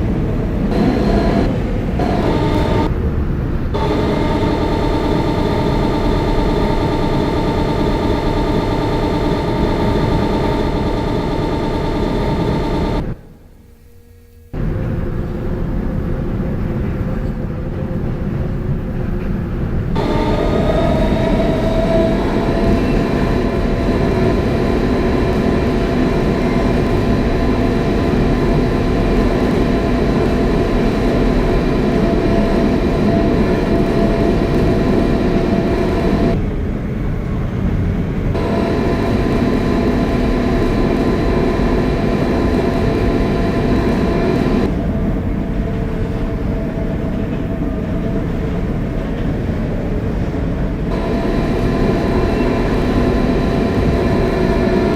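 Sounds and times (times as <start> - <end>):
traction motors whining: 0.0 - 13.3, 19.2 - 36.5, 38.3 - 54.9
subway car rumble: 0.0 - 54.9.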